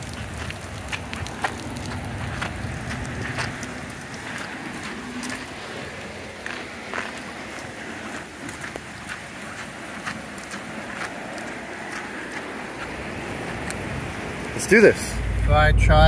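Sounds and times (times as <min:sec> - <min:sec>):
rain on wet pavement: 0:00.0 - 0:15.5
sharp raindrops striking nearby: 0:00.0 - 0:15.5.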